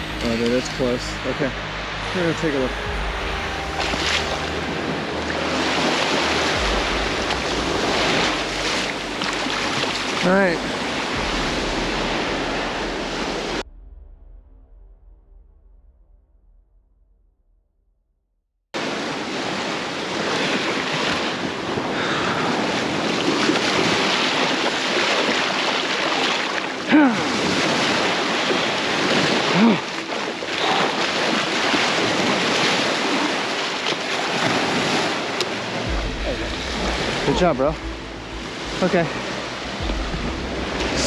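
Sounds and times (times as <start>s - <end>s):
surf washing onto beach: 0.0s - 13.6s, 18.8s - 41.0s.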